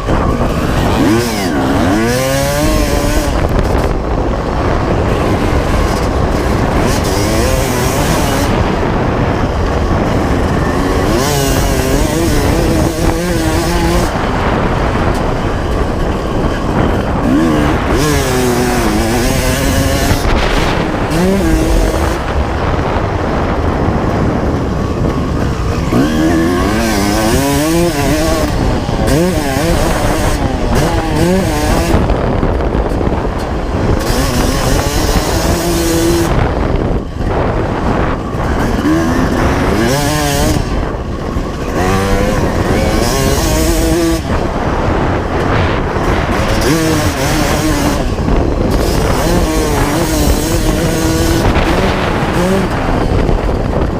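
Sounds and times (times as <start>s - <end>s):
motorcycle engine revving: 0.0s - 53.9s
wind rumble on microphone: 0.0s - 53.9s.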